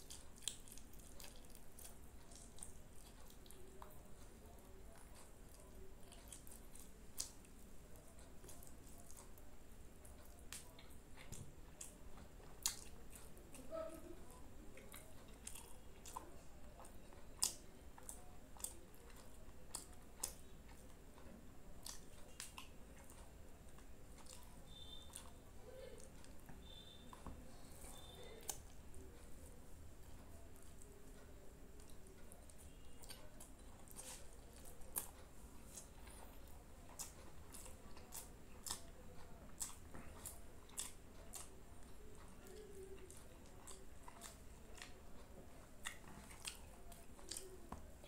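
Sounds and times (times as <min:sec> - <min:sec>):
person chewing food: 0:00.0 - 0:48.0.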